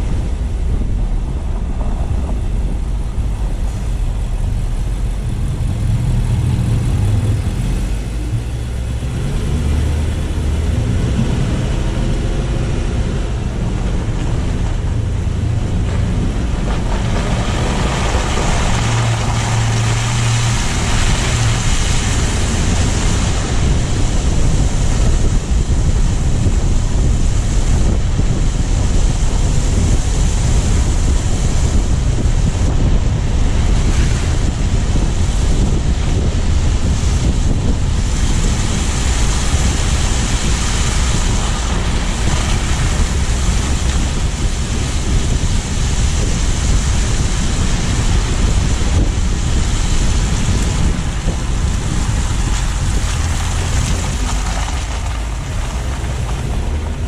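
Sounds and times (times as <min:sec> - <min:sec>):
wind rumbling on microphone: 0:00.0 - 0:57.0
tyres hissing on wet road: 0:01.6 - 0:57.0.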